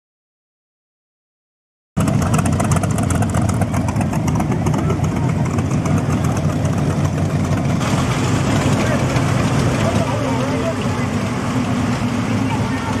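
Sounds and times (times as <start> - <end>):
engine idling with loud rumble: 2.0 - 13.0.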